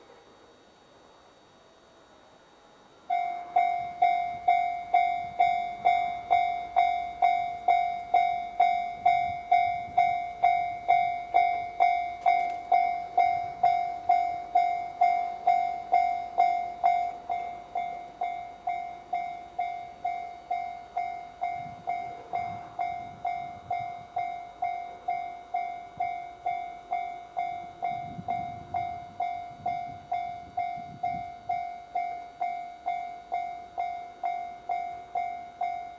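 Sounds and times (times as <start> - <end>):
electric train rumbling past: 0.0 - 35.9
level-crossing alarm bell: 2.4 - 35.9.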